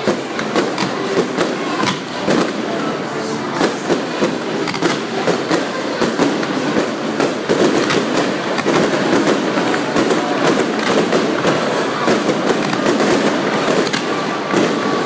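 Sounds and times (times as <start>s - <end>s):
fireworks crackles and pops: 0.0s - 15.0s
fireworks fountain hissing: 0.0s - 15.0s.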